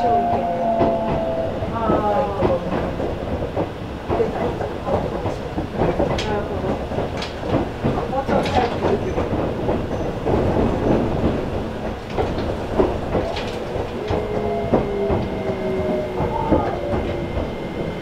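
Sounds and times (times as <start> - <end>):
train running rumble: 0.0 - 18.0
wheels clicking over rail joints: 0.8 - 18.0.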